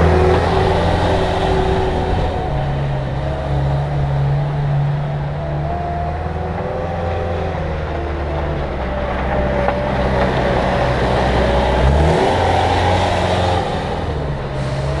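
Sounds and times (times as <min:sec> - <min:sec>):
skid steer diesel engine running: 0:00.0 - 0:15.0.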